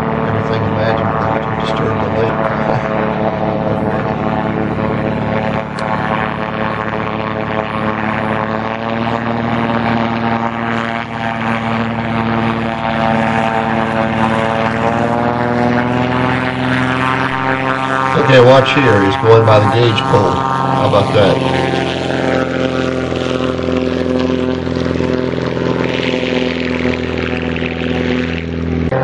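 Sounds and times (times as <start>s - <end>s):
propeller engine drone: 0.0s - 29.0s.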